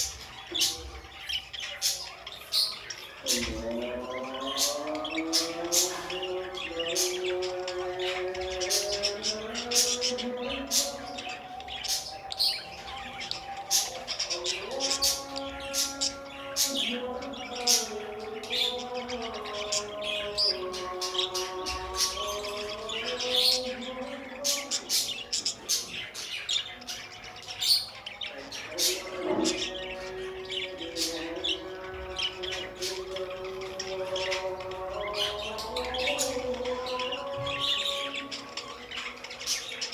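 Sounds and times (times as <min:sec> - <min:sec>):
budgerigars chirping: 0:00.0 - 0:39.9
slow melodic background music: 0:00.0 - 0:39.9.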